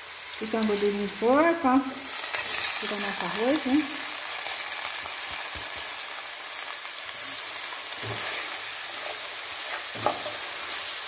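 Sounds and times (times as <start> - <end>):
rice sizzling in hot fat: 0.0 - 11.0.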